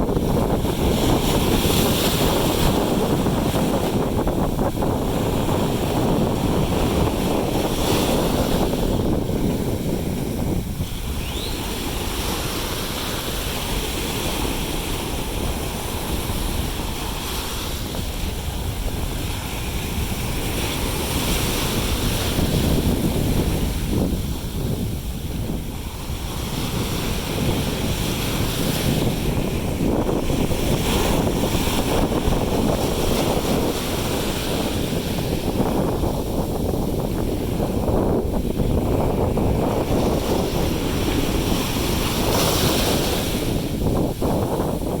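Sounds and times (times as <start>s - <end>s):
seawater rushing and splashing: 0.0s - 45.0s
wind buffeting microphone: 0.0s - 45.0s.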